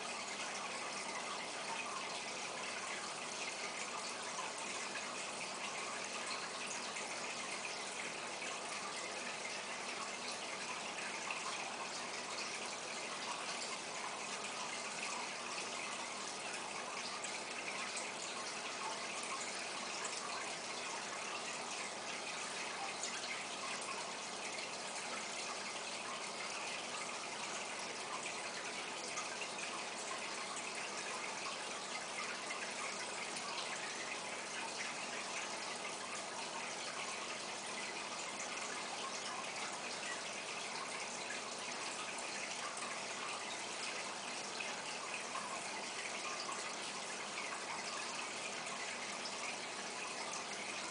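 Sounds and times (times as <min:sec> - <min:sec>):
aquarium water splashing: 0:00.0 - 0:50.9.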